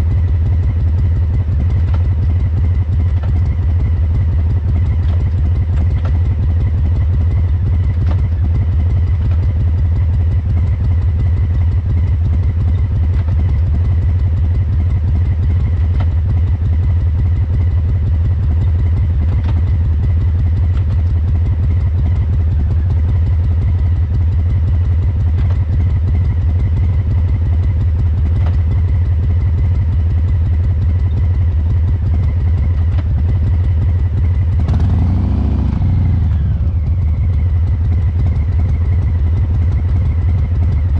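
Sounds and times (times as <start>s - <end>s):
motorcycle exhaust rumbling: 0.0s - 40.9s.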